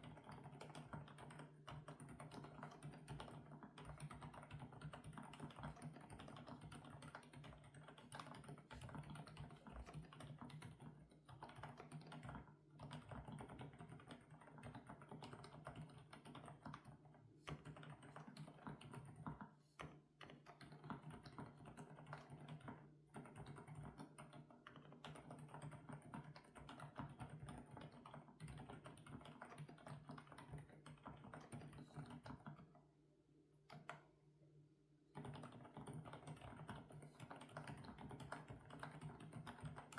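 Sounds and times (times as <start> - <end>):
fast typing on mechanical keyboard: 0.0 - 32.8, 35.1 - 39.9.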